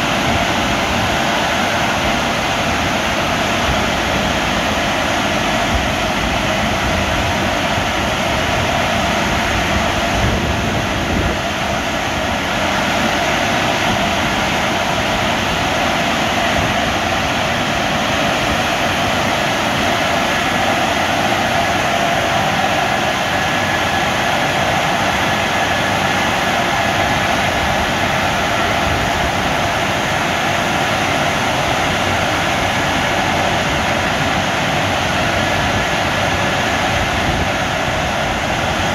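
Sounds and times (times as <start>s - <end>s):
car wash blowers blowing air: 0.0s - 38.9s.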